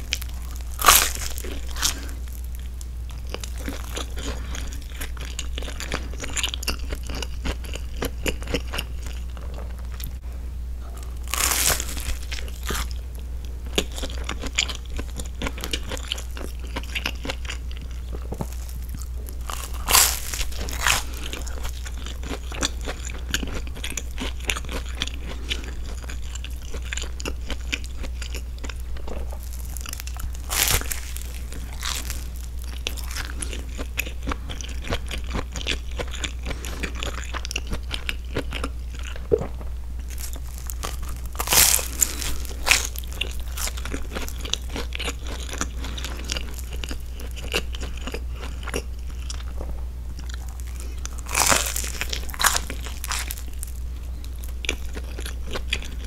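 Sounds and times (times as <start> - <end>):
chewing and biting bread: 0.0 - 10.2, 10.8 - 56.0
crunches of toasted crust: 0.0 - 10.2, 11.0 - 38.7, 40.0 - 56.0.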